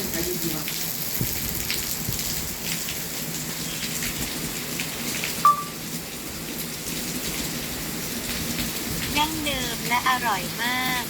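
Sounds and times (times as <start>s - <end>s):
rain hiss: 0.0s - 11.0s
ticks of raindrops: 0.0s - 11.0s.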